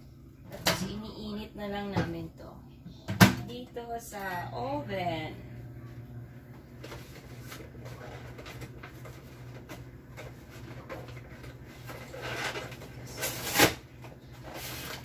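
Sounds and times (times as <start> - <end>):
low appliance hum: 0.0 - 15.0.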